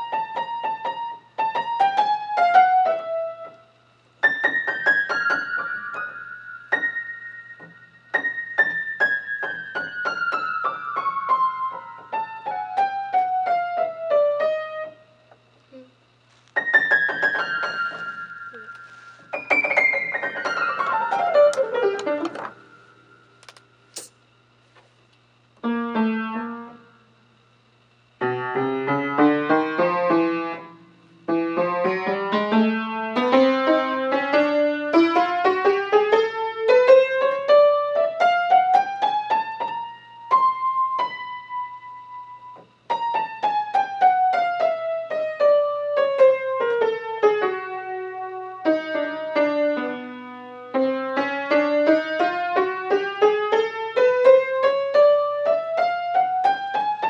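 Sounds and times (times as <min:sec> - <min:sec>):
piano keyboard playing runs: 0:00.0 - 0:15.8, 0:16.6 - 0:24.4, 0:25.6 - 0:27.5, 0:28.2 - 0:57.0.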